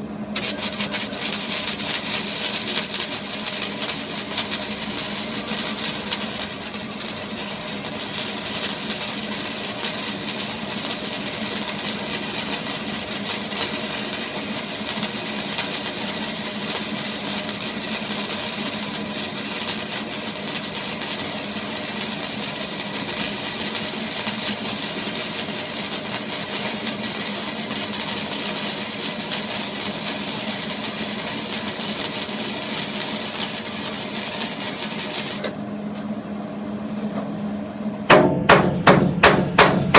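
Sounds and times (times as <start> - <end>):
machine running with low hum: 0.0 - 39.9
fine even crackle: 0.4 - 35.5.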